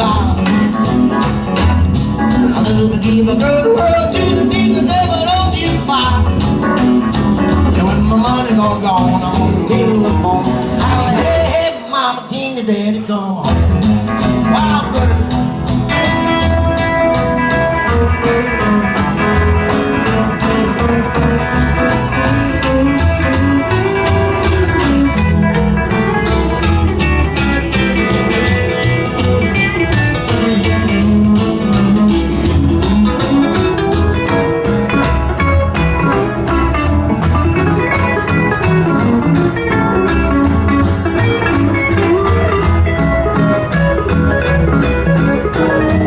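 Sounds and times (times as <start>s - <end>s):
driving drum beat: 0.0s - 11.9s, 13.4s - 46.0s
bass line: 0.0s - 46.0s
country band playing: 0.0s - 46.0s
lead guitar: 0.0s - 46.0s.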